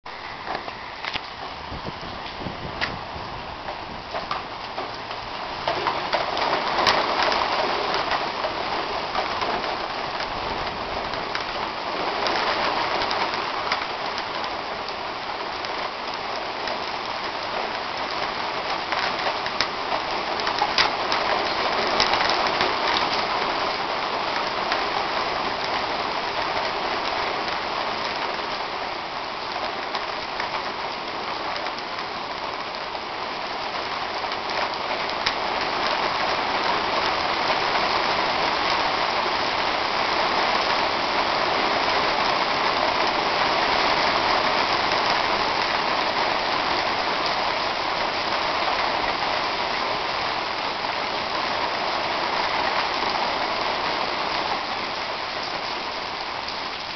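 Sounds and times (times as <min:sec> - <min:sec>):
hard rain on pool and patio: 0:00.0 - 0:56.9.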